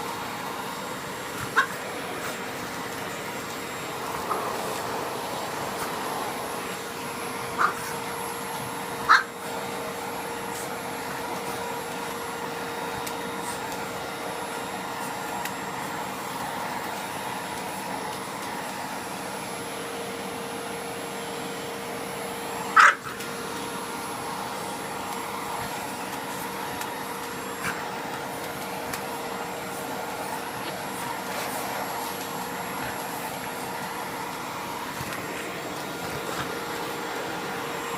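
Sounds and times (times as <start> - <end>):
vacuum cleaner humming: 0.0 - 37.9.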